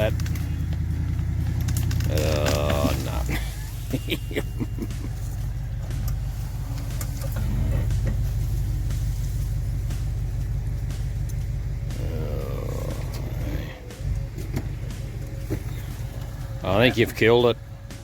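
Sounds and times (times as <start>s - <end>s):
truck engine under load: 0.0s - 18.0s.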